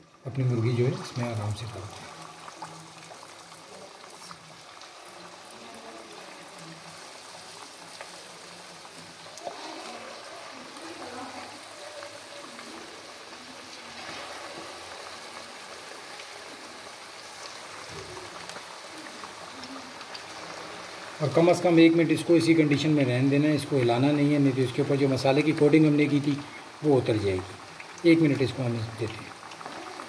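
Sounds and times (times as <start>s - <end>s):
chicken deep-frying in hot oil: 0.0s - 30.0s.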